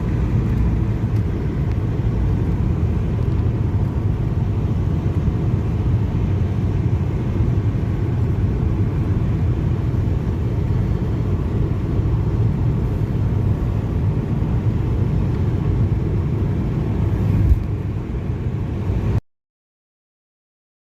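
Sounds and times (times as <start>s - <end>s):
car road rumble: 0.0s - 19.2s.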